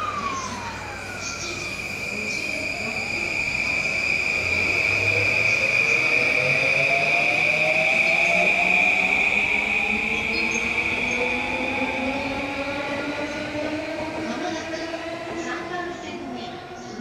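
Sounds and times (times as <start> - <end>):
electric train motor whine: 0.0 - 16.0
steady high-pitched tone: 0.0 - 16.9.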